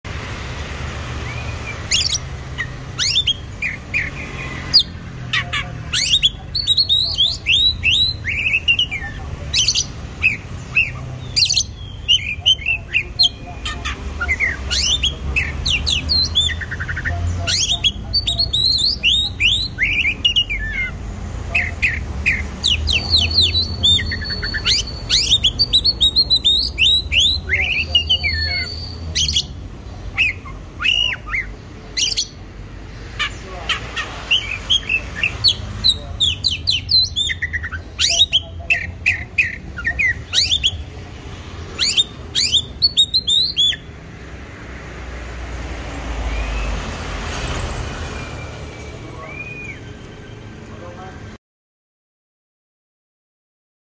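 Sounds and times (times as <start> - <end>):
songbird singing rapid chirps: 0.1 - 51.4.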